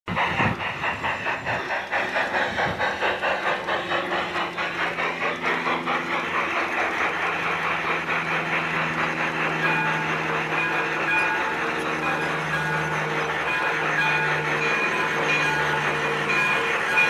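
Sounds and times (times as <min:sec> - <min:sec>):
model steam locomotive chuffing: 0:00.1 - 0:17.0.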